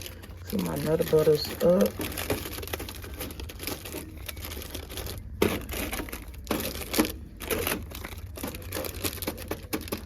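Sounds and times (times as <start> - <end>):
plastic snack wrappers crinkling: 0.0 - 10.0.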